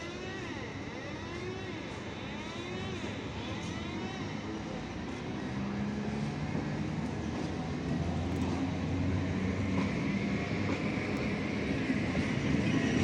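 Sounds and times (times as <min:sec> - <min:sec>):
train rumbling along track: 0:01.9 - 0:13.0.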